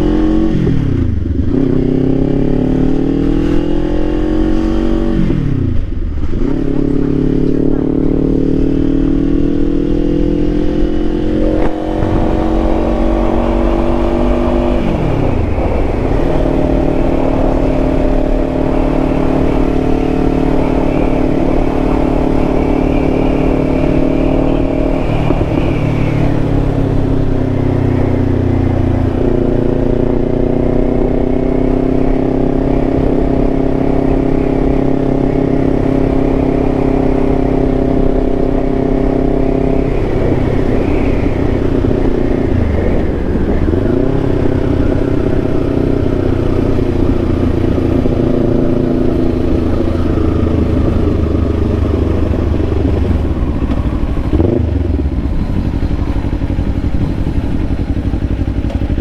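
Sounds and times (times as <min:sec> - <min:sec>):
motorcycle engine revving: 0:00.0 - 0:59.0
road and wind rumble: 0:00.0 - 0:59.0.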